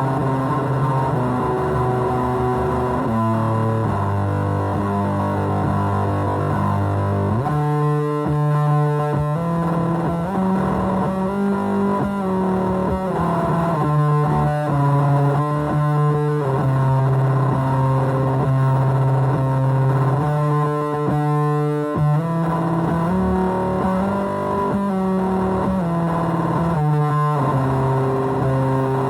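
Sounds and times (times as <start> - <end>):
distorted electric guitar: 0.0 - 29.0.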